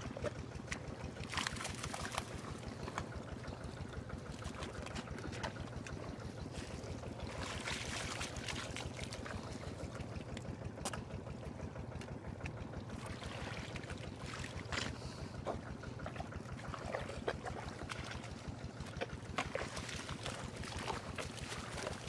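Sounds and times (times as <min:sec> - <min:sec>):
hands sloshing in muddy water: 0:00.0 - 0:22.0
steady low rumble: 0:00.0 - 0:22.0
wading steps in water: 0:00.0 - 0:22.0
short splashes: 0:00.3 - 0:03.3, 0:04.2 - 0:11.0, 0:12.8 - 0:22.0.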